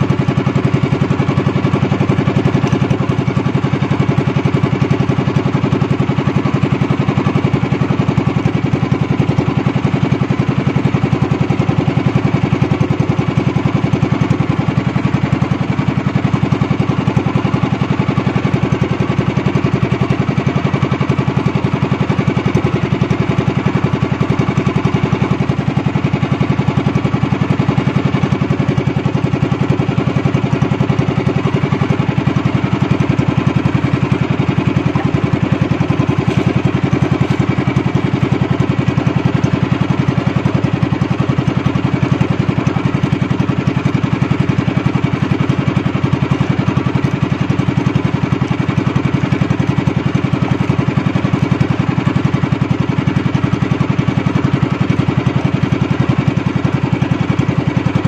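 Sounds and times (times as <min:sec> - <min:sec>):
small boat engine puttering: 0:00.0 - 0:58.0.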